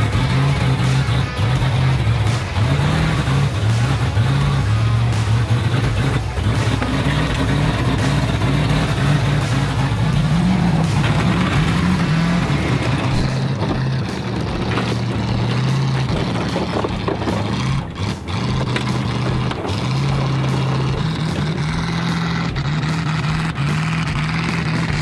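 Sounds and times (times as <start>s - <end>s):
car wrecks dragging over gravel: 0.0s - 25.0s
truck engine under load: 0.0s - 25.0s.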